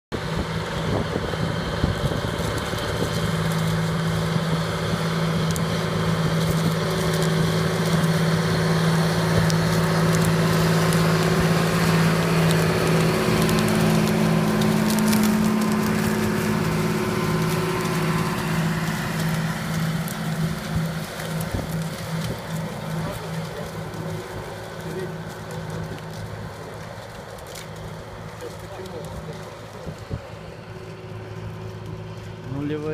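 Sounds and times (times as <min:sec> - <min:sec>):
crackling of stubble and soil: 0:00.1 - 0:32.9
tractor diesel engine: 0:00.1 - 0:32.9.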